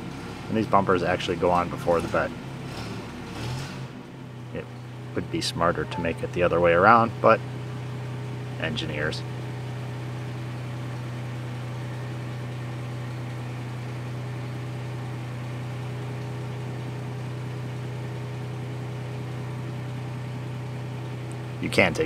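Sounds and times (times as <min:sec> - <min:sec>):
forklift engine idling: 0:04.1 - 0:22.0.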